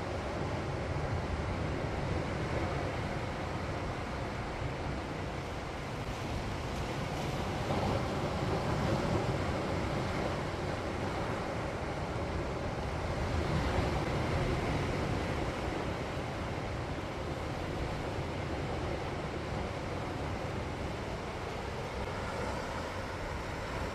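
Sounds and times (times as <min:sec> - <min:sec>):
sea waves washing on shore: 0:00.0 - 0:23.9
wind rumble on microphone: 0:00.0 - 0:23.9.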